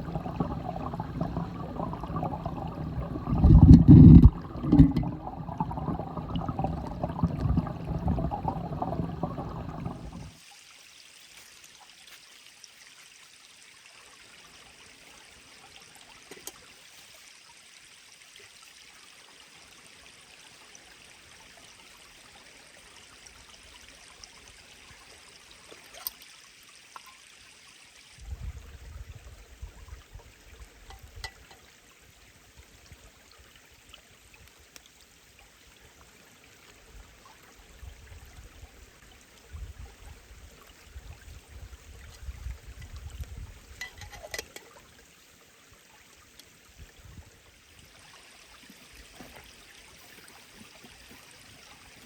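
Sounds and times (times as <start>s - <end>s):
stream water flowing: 0.0s - 28.3s, 29.1s - 52.0s.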